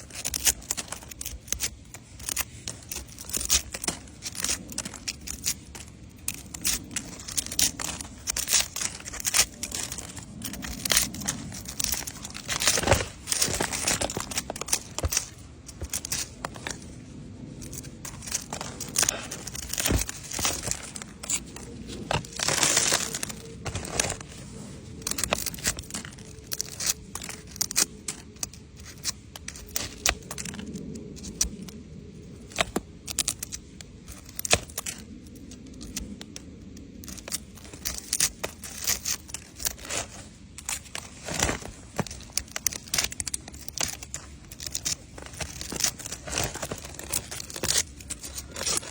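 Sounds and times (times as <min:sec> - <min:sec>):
leaves crinkling and tearing: 0:00.0 - 0:48.9.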